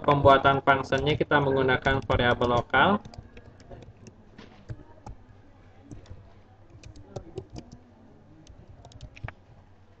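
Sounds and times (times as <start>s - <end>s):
computer keyboard typing: 0.8s - 7.8s, 8.4s - 9.4s.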